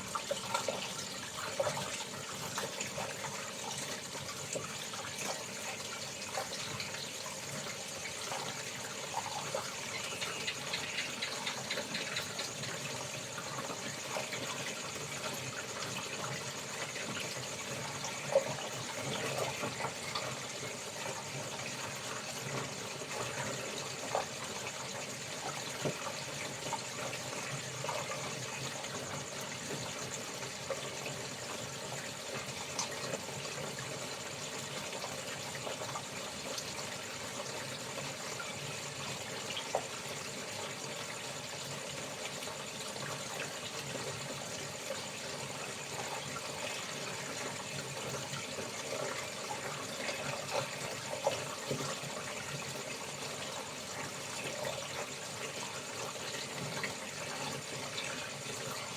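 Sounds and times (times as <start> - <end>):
high insect chorus: 0.0 - 58.9
tap water running into basin: 0.0 - 58.9.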